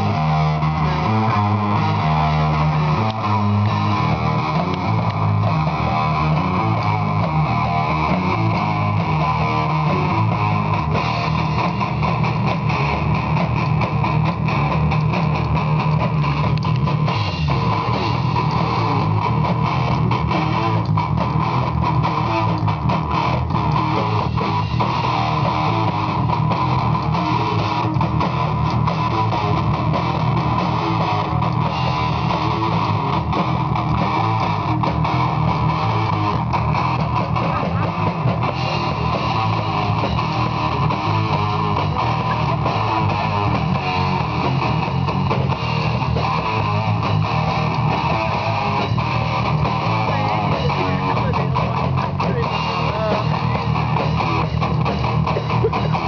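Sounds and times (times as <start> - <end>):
bass guitar: 0.0 - 56.0
drum kit: 0.0 - 56.0
electric guitar riff: 0.0 - 56.0.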